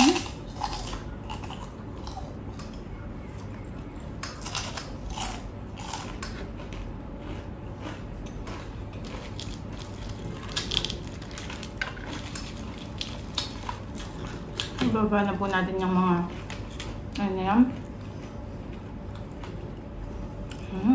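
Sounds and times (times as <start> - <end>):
person chewing crunchy food: 0.0 - 14.8, 16.2 - 17.2, 17.8 - 20.8.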